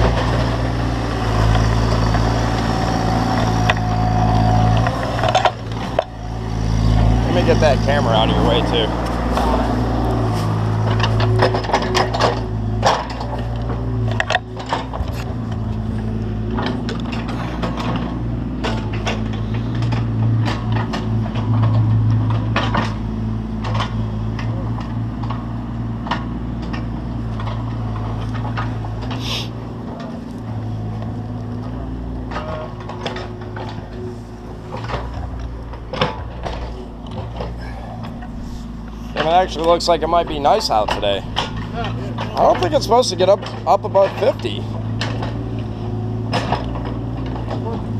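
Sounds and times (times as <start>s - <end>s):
diesel engine running: 0.0s - 47.9s
metal knocks and clanks: 1.4s - 29.1s, 31.9s - 47.9s.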